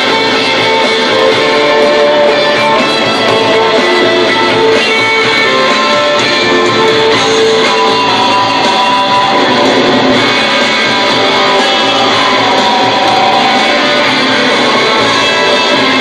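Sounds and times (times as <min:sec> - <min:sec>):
distorted electric guitars: 0:00.0 - 0:16.0
drums: 0:00.0 - 0:16.0.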